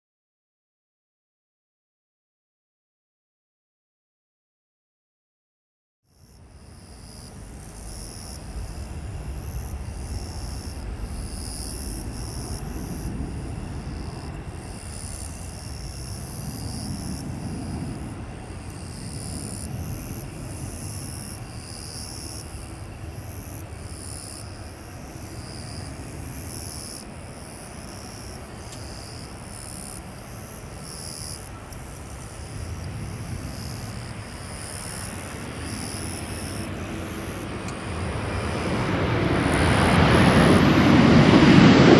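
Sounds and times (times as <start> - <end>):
distant jet engines rumbling: 6.4 - 41.9.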